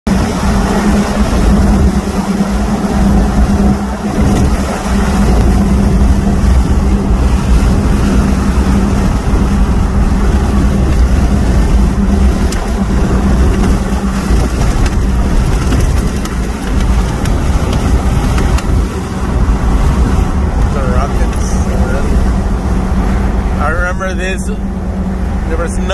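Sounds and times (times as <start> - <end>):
road and wind noise in car: 0.0 - 25.9
low hum: 0.1 - 25.9.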